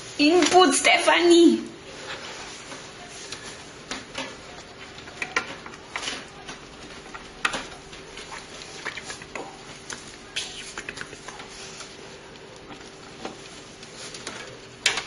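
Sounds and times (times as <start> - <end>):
small clicks taps and scratching: 2.7 - 15.0.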